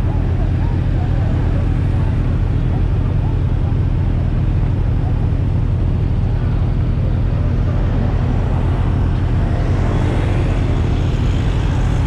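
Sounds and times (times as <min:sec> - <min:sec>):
motorcycle riding: 0:00.0 - 0:12.0
road noise: 0:00.0 - 0:12.0.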